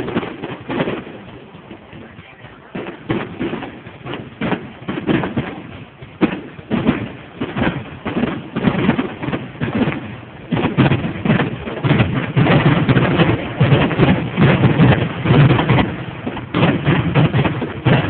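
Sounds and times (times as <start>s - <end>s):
fireworks bangs and thuds: 0.0s - 18.0s.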